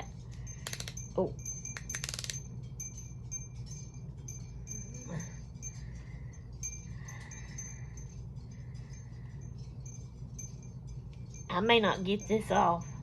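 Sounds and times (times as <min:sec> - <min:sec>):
faint high tinkling: 0:00.0 - 0:13.0
steady low hum: 0:00.0 - 0:13.0.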